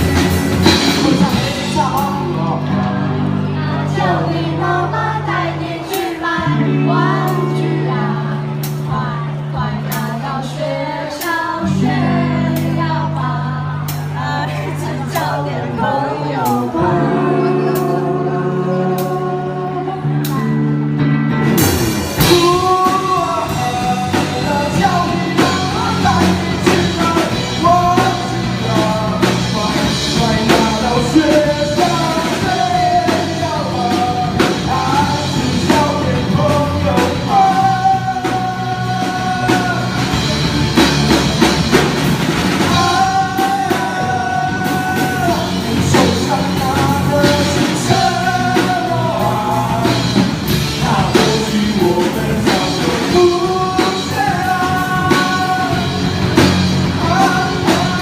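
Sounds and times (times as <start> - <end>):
person singing: 0.0 - 20.8, 21.4 - 58.0
rock band playing: 0.0 - 58.0.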